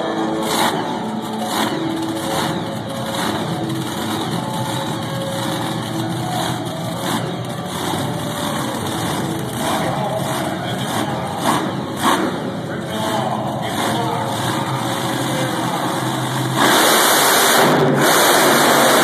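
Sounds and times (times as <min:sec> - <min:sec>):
truck engines idling: 0:00.0 - 0:19.0.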